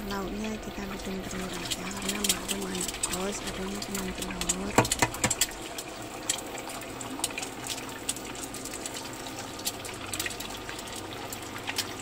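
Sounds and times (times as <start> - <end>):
eggs sizzling in oil: 0.0 - 12.0.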